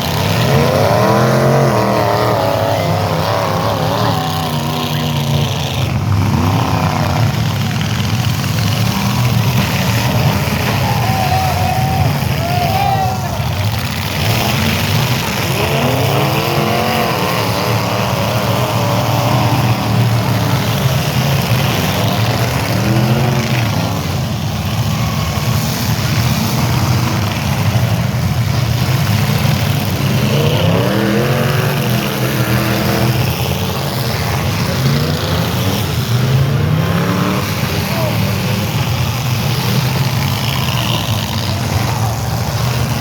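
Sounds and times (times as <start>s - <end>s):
car engines running loud: 0.0s - 43.0s
engines revving: 0.0s - 43.0s.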